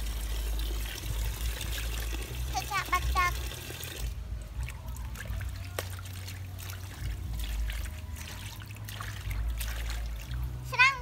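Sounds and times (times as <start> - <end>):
water splashing in metal basin: 0.0 - 11.0.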